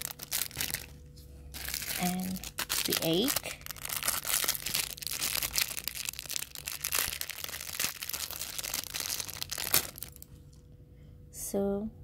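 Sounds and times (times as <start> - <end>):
plastic packaging crinkling and tearing: 0.0 - 10.3.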